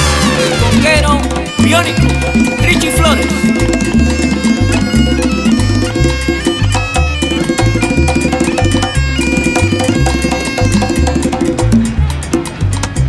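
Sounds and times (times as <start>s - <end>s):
salsa music with horns: 0.0s - 13.0s.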